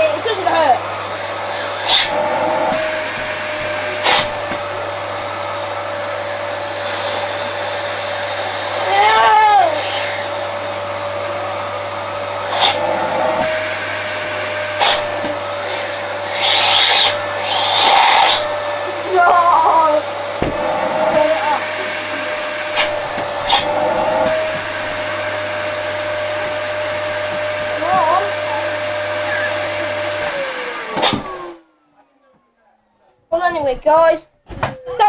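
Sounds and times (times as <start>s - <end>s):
vacuum cleaner running: 0.0s - 34.1s.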